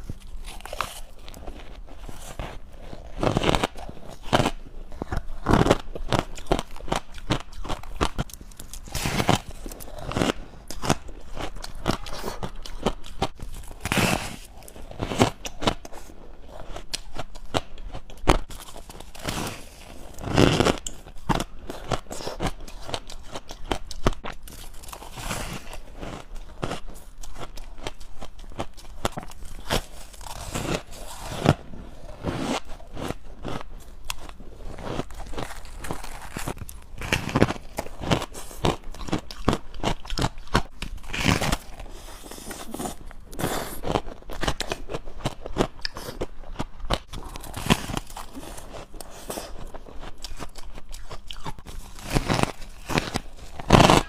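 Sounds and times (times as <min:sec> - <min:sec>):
chewing crunchy ice: 0:00.0 - 0:54.0.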